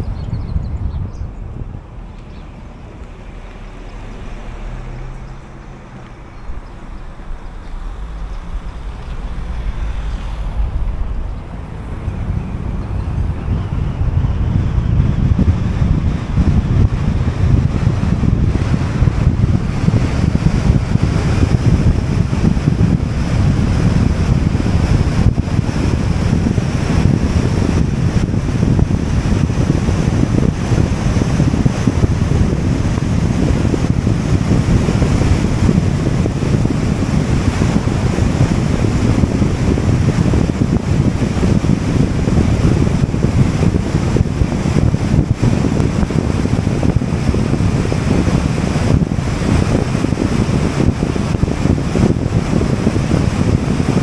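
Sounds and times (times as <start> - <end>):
car road noise at highway speed: 0.0 - 54.0
wind buffeting microphone: 0.0 - 54.0.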